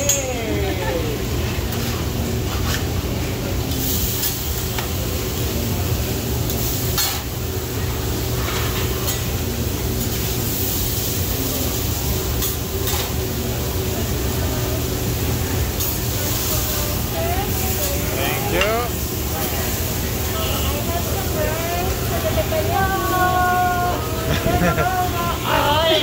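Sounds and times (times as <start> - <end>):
food sizzling on a griddle: 0.0 - 26.0.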